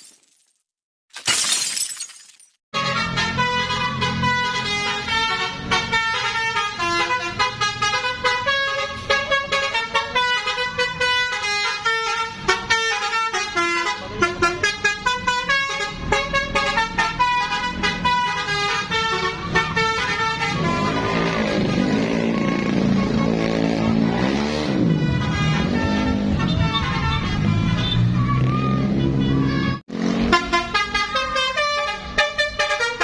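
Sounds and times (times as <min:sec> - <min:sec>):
multi-tone bus horn melody: 0:02.7 - 0:33.0.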